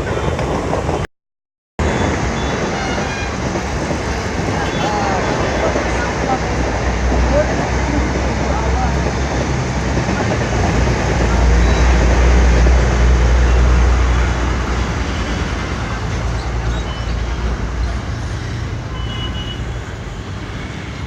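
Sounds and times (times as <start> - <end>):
train on rails: 0.0 - 1.1, 1.8 - 21.0
diesel locomotive engine running: 1.8 - 21.0.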